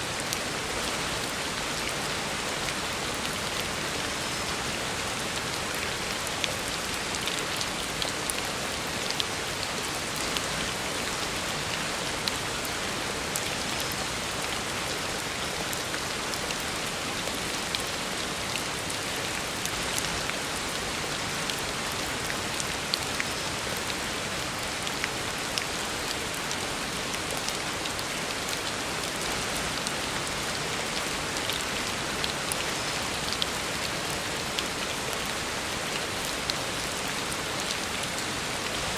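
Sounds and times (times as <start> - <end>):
heavy rain on a road: 0.0 - 38.9.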